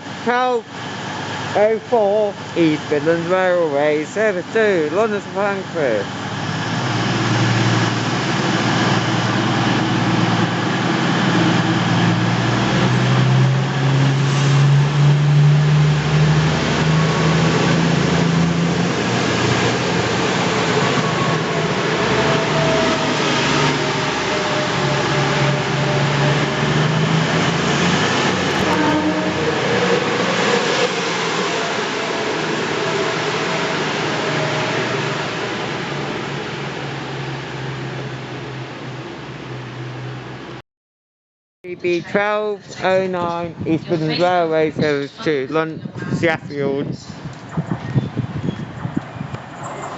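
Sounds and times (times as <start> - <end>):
diesel train engines accelerating: 0.0 - 40.6, 41.7 - 49.9.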